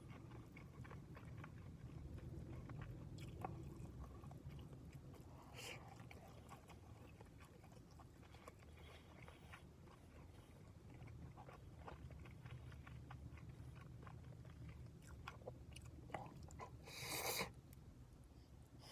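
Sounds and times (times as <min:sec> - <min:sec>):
chewing: 0:00.0 - 0:17.6.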